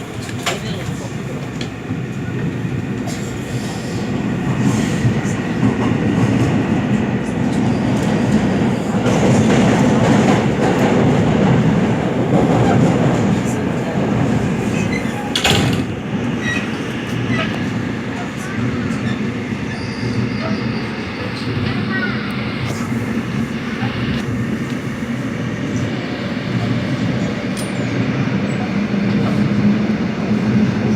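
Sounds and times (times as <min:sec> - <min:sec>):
subway train running at speed: 0:00.0 - 0:30.9.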